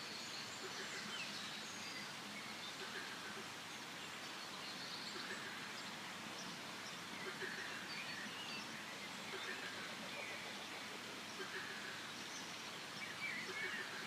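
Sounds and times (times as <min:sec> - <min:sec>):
faint bird chirps and calls: 0:00.0 - 0:14.0
steady background hiss: 0:00.0 - 0:14.0.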